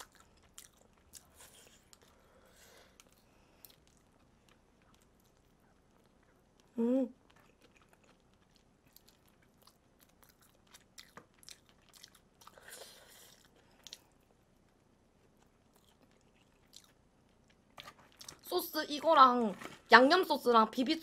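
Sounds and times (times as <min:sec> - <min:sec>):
crunchy chewing of fried chicken: 0:00.0 - 0:18.5.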